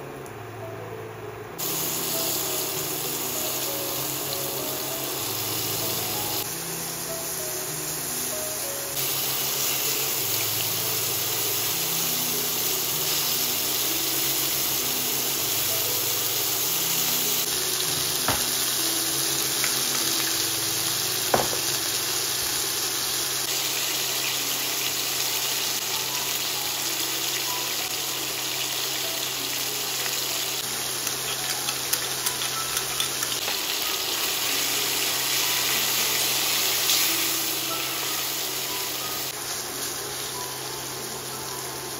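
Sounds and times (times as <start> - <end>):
food sizzling in a pan: 1.6 - 41.9.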